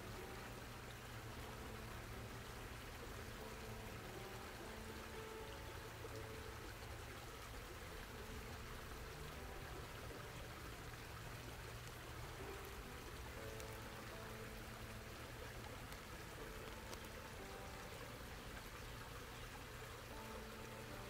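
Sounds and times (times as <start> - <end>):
stream babbling over rocks: 0.0 - 21.0.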